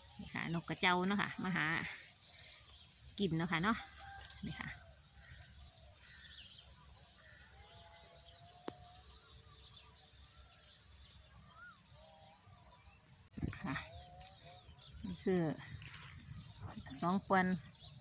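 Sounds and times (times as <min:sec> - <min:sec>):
small birds chirping and whistling: 0:00.0 - 0:18.0.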